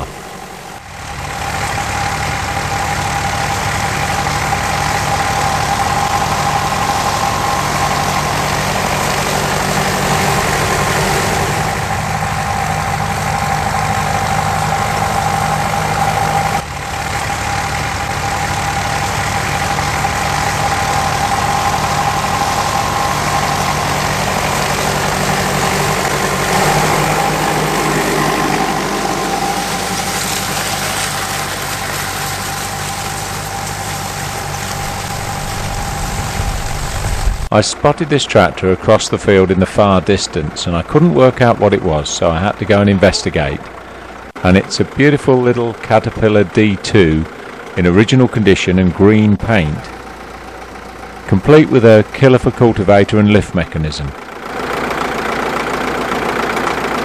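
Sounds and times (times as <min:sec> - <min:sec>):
tractor engine running under load: 0:00.0 - 0:57.0.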